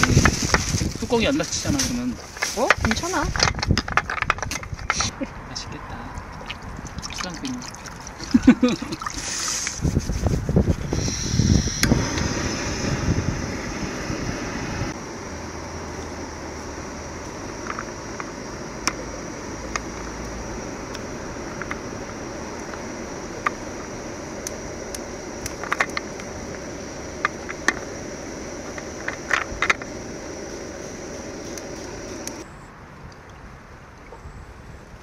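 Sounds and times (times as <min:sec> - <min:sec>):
camp burner hissing: 0:00.0 - 0:03.8, 0:06.0 - 0:32.5.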